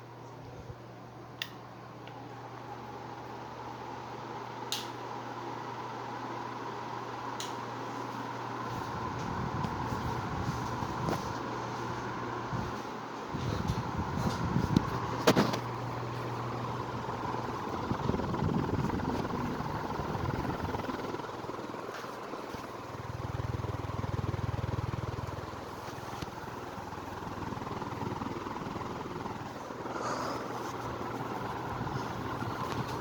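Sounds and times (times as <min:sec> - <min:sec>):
ceiling fan motor hum: 0:00.0 - 0:33.0.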